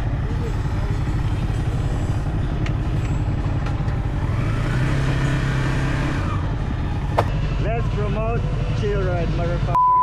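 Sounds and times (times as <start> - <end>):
motorcycle engine running: 0.0 - 9.8
road noise: 0.0 - 9.8.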